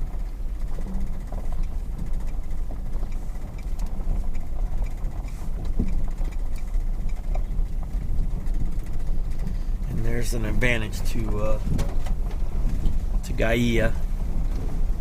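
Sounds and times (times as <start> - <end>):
car engine and road rumble: 0.0 - 15.0
light clicks and knocks: 0.2 - 15.0.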